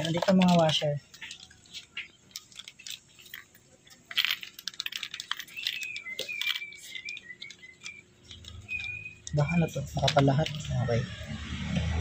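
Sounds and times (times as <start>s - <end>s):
metal washers clicking: 0.0s - 10.9s
plastic packet crinkling: 0.0s - 11.2s.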